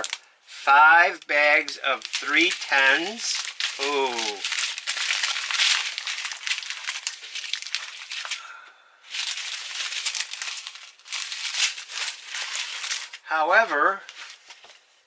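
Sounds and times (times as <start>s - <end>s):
plastic bags crinkling: 0.0s - 0.4s, 1.1s - 13.3s, 14.0s - 14.9s.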